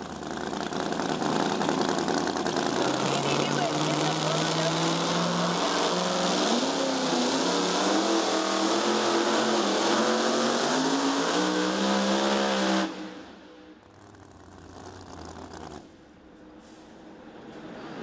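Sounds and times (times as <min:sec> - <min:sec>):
truck engine revving hard: 0:00.0 - 0:15.9.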